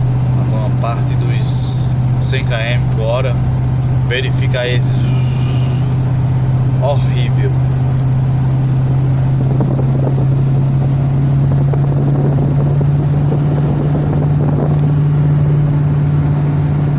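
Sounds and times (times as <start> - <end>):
car engine drone: 0.0 - 16.9
road and wind rush: 0.0 - 16.9.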